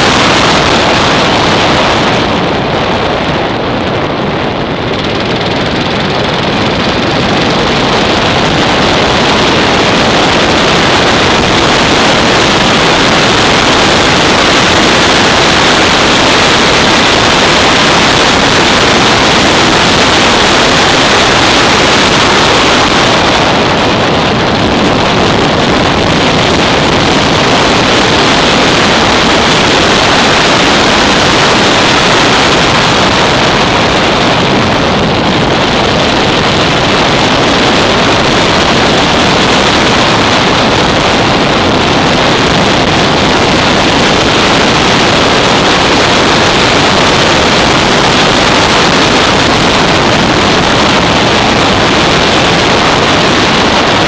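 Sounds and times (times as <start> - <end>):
motorcycle engine running: 0.0 - 54.0
wind rush over microphone: 0.0 - 54.0.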